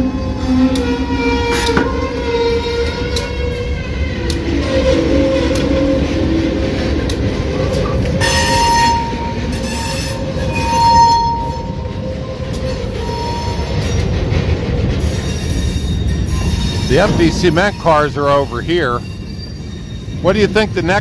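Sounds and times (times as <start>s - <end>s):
train rumbling past: 0.0s - 21.0s
wheels squealing on rail: 0.0s - 21.0s.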